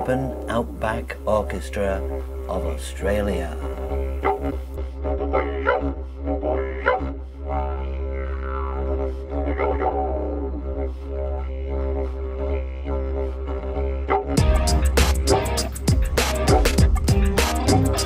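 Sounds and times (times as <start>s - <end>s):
didgeridoo drone: 0.0s - 18.0s.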